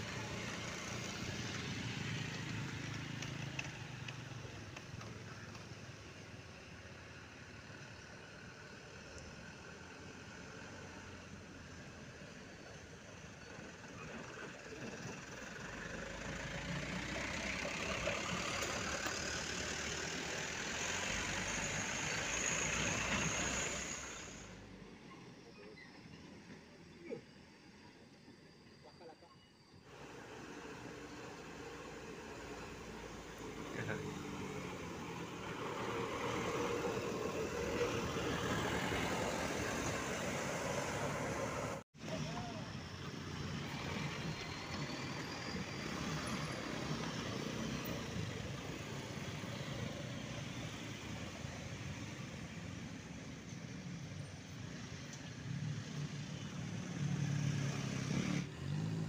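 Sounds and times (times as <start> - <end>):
truck diesel engine passing: 0.0 - 25.1, 29.9 - 59.0.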